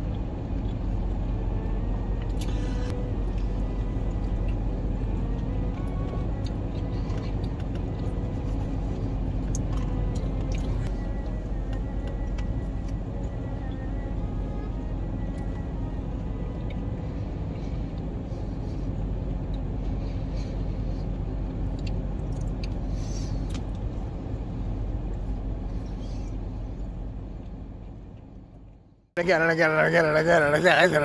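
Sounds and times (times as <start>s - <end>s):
car cabin rumble: 0.0s - 31.0s.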